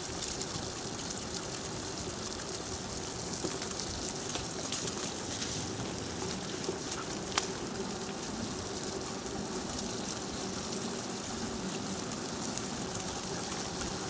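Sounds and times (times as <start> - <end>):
wheels rolling on wet road: 0.0 - 14.0.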